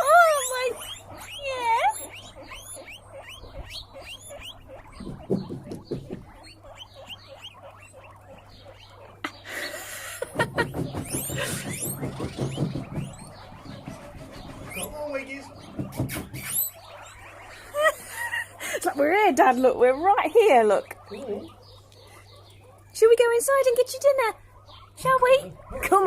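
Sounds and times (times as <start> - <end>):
guinea pigs squeaking: 0.0 - 26.0.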